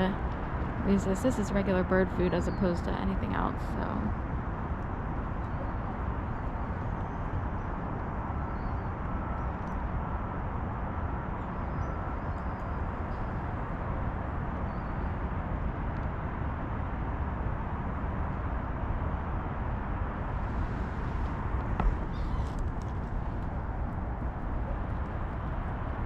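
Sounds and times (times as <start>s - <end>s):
outdoor background rumble: 0.0s - 26.0s.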